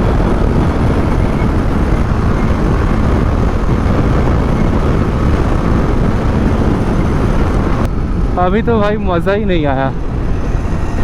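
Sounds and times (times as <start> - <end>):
motorcycle engine: 0.0 - 8.8, 9.4 - 11.0
road noise: 0.0 - 11.0
wind rushing over microphone: 0.0 - 11.0.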